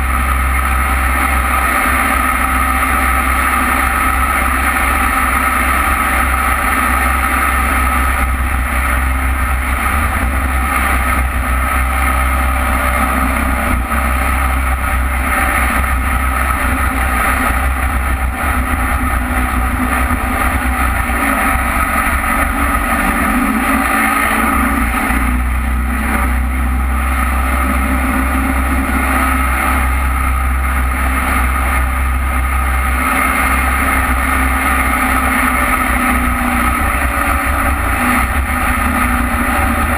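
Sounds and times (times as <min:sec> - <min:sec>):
jet boat engine running: 0:00.0 - 0:39.9.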